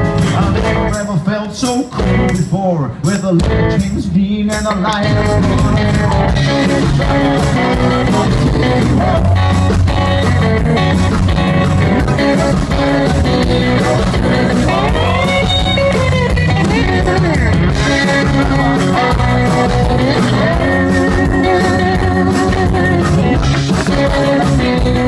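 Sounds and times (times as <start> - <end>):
electric guitar: 0.0 - 25.0
rock band playing: 0.0 - 25.0.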